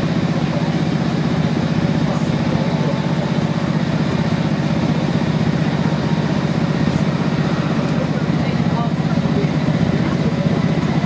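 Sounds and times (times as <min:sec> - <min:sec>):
diesel train rumble: 0:00.0 - 0:11.0
passenger train passing alongside: 0:00.0 - 0:11.0.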